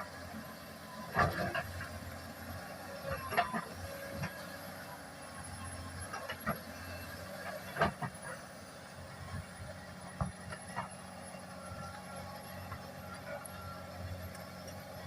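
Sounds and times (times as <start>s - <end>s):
excavator engine humming: 0.0s - 15.0s.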